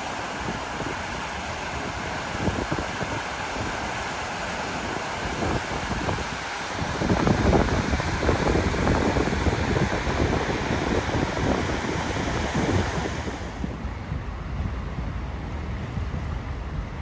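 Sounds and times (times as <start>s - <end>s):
fast-flowing river: 0.0s - 14.1s
wind buffeting microphone: 0.0s - 17.0s.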